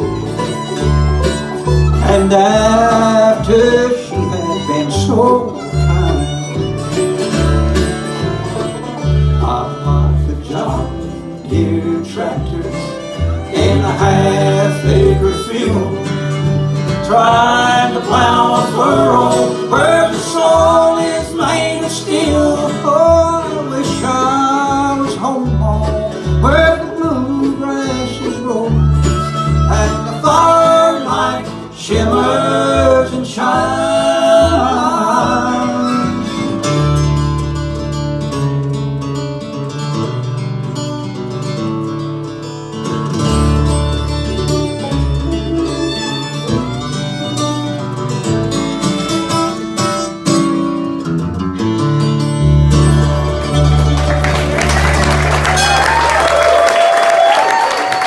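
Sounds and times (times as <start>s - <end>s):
bluegrass band playing: 0.0s - 58.0s
upright bass notes: 0.0s - 58.0s.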